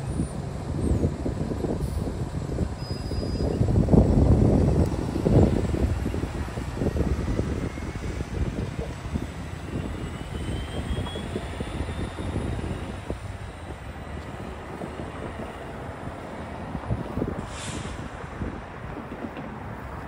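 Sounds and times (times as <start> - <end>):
bus pulling away: 0.0 - 20.0
cars driving over crossing: 0.0 - 20.0
wind gusts on microphone: 0.0 - 20.0.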